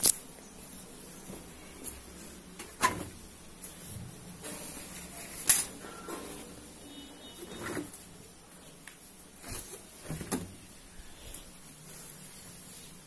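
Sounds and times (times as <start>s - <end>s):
clothes handling sounds: 0.0s - 13.0s.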